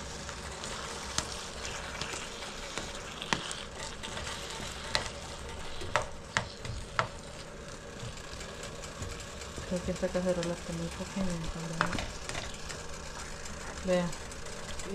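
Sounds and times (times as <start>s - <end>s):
sausage sizzling in a pot: 0.0s - 14.9s.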